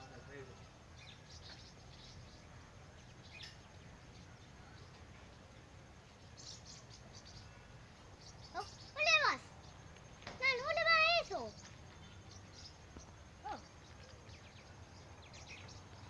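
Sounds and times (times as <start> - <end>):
faint bird chirps: 0.0 - 16.0
faint low outdoor rumble: 0.0 - 16.0.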